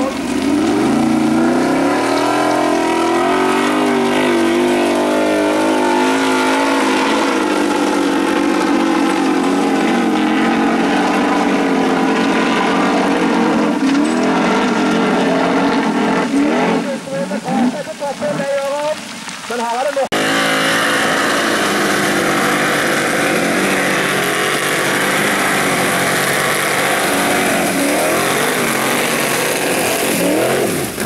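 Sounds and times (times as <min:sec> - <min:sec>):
car engine revving high: 0:00.0 - 0:17.9, 0:20.1 - 0:31.0.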